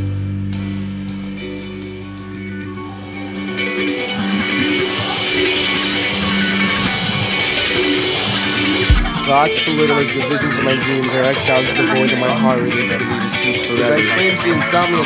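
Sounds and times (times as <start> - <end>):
instrumental guitar band music: 0.0 - 15.0.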